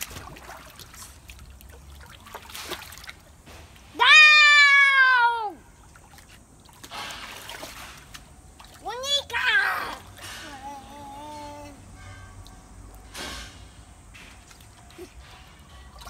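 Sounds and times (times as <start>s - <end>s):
faint water splashing: 0.0s - 16.0s.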